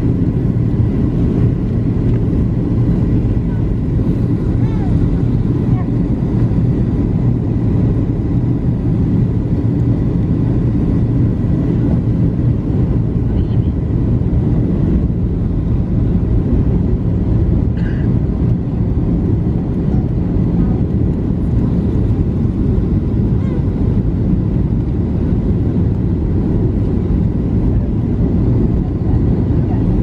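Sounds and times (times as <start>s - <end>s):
jet engines droning: 0.0s - 30.0s.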